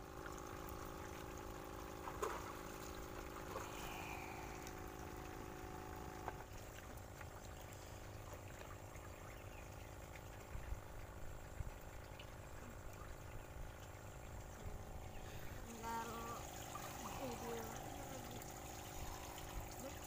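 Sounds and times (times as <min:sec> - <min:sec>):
faint steady hum: 0:00.0 - 0:20.0
water trickling and bubbling: 0:00.0 - 0:20.0.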